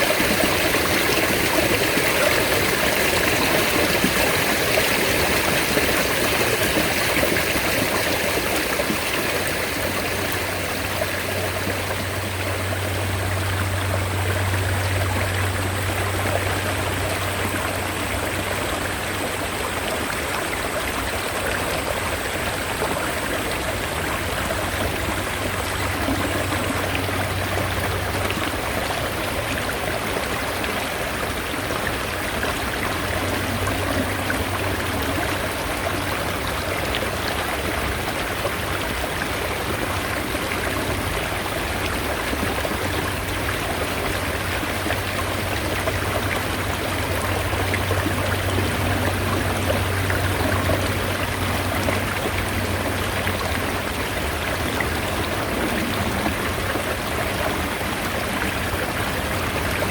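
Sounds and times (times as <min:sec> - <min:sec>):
stream water rushing and trickling: 0:00.0 - 0:59.9.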